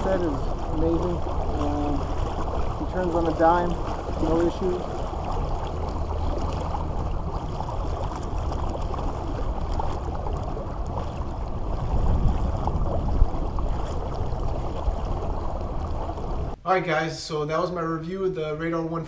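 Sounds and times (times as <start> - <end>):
water rushing along kayak hull: 0.0 - 16.6
steady low rumble: 0.0 - 18.4.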